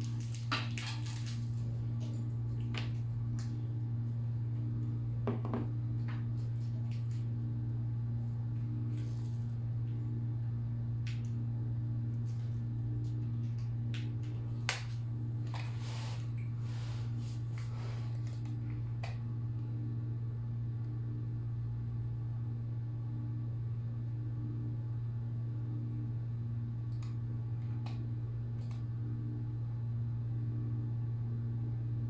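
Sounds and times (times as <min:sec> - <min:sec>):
hard drive humming: 0:01.5 - 0:32.0.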